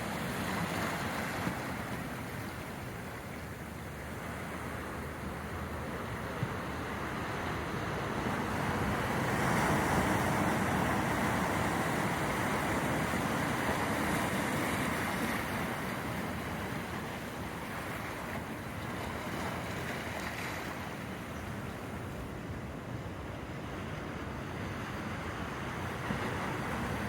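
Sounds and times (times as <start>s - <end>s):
ocean surf washing in: 0.0s - 21.2s, 21.8s - 27.0s.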